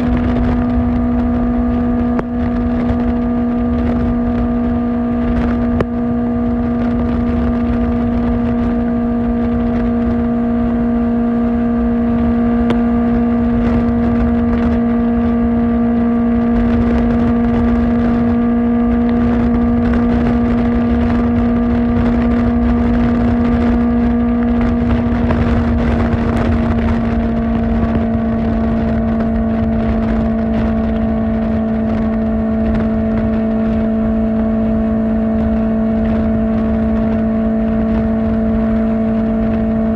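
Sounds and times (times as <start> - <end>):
motorcycle engine at high revs: 0.0 - 39.9
wind and road rush: 0.0 - 39.9.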